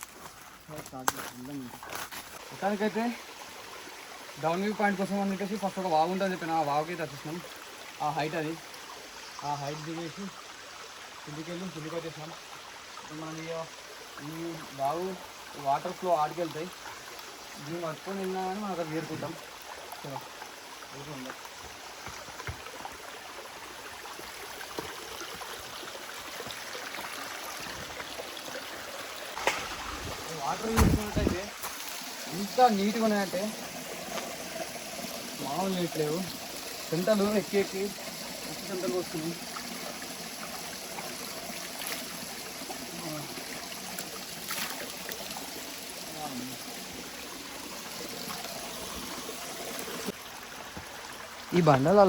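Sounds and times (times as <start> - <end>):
stream rushing over stones: 0.0 - 52.0.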